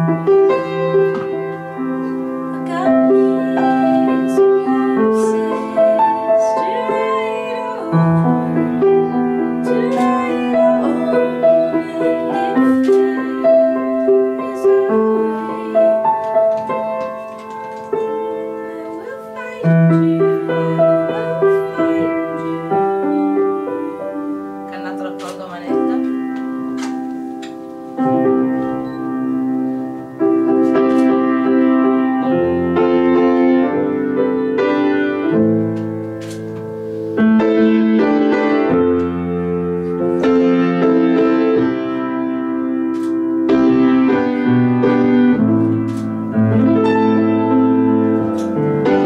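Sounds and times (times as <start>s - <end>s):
solo grand piano piece: 0.0s - 49.0s.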